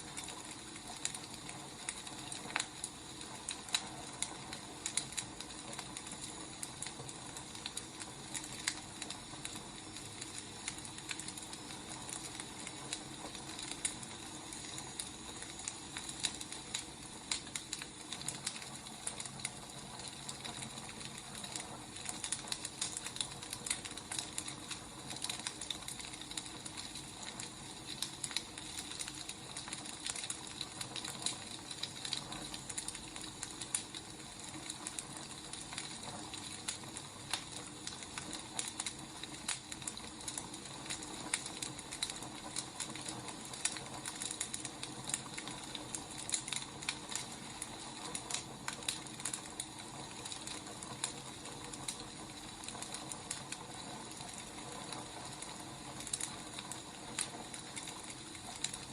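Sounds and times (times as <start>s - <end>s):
steady hiss: 0.0s - 58.9s
wood fire crackling: 0.0s - 58.9s.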